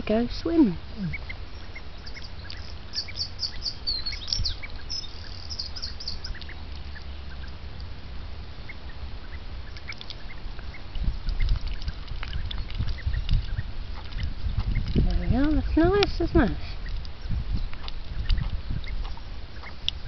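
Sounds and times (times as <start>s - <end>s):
ducklings peeping: 0.0s - 20.0s
low rumble on microphone: 0.0s - 20.0s.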